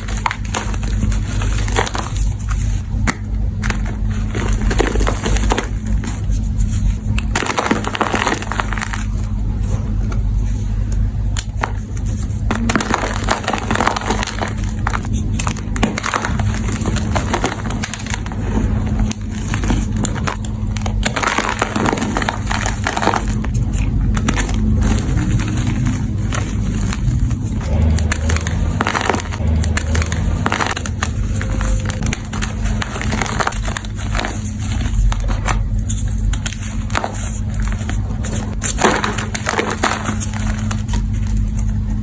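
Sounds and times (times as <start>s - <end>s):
chalk crunching and crackling: 0.0s - 42.0s.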